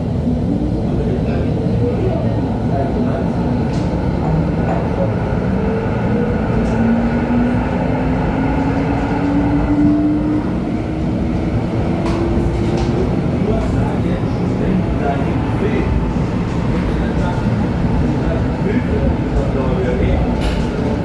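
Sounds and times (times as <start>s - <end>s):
light rail car rumble: 0.0s - 21.0s.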